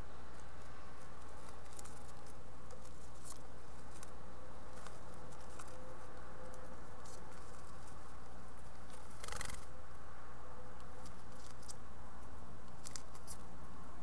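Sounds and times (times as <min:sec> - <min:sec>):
electrical hum: 0:00.0 - 0:14.0
bird claws scratching on wood: 0:00.3 - 0:09.7, 0:10.8 - 0:11.8, 0:12.6 - 0:13.4.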